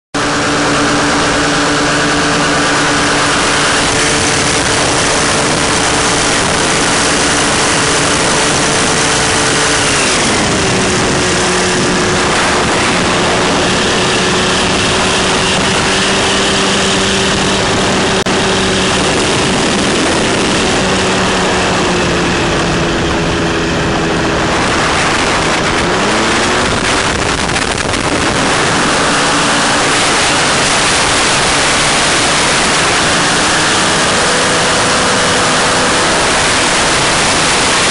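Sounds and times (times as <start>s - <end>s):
paramotor engine and propeller: 0.2s - 37.9s
wind rushing: 0.2s - 37.9s.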